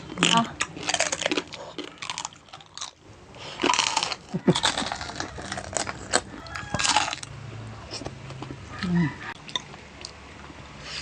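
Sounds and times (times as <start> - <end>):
person chewing and crunching food: 0.0 - 10.6.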